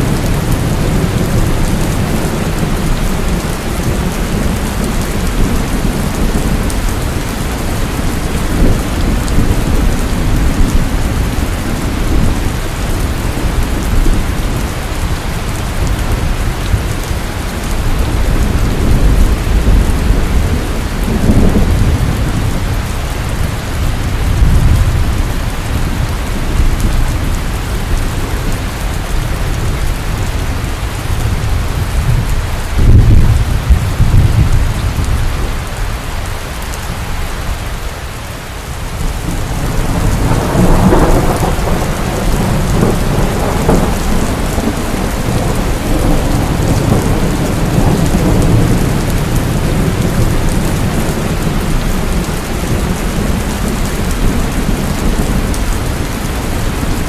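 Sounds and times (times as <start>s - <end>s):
rolling thunder: 0.0s - 35.7s, 38.9s - 57.0s
heavy rain on a porch: 0.0s - 57.0s.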